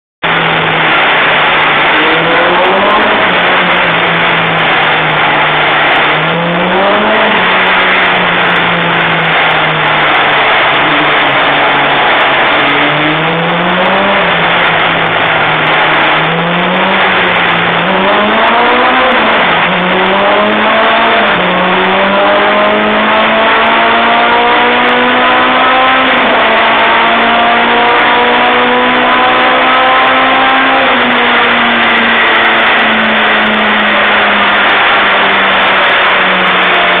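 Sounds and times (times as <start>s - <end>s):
car engine revving on dyno: 0.2s - 37.0s.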